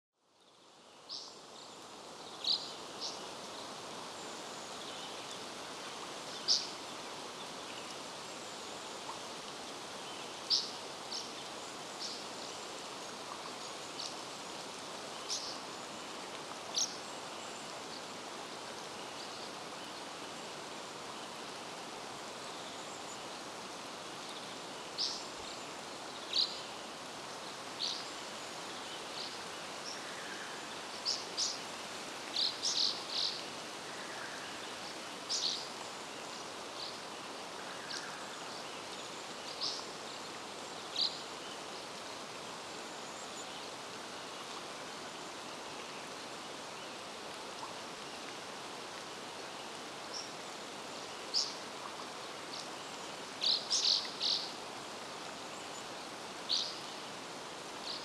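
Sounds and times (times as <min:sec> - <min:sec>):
even outdoor hiss: 0:00.2 - 0:58.0.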